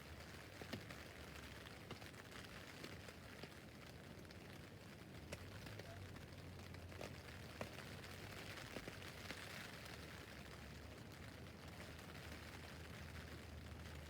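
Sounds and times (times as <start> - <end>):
rain on a tent roof: 0.0 - 14.0.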